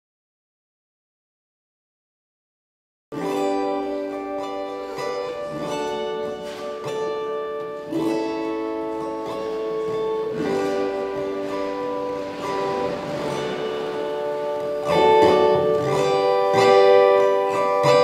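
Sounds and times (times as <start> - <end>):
slow ringing music chords: 3.2 - 18.0.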